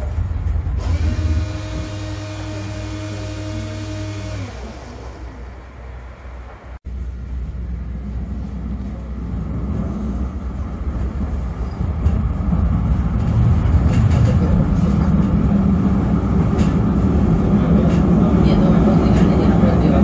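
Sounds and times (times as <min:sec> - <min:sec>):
tram rumble: 0:00.0 - 0:20.0.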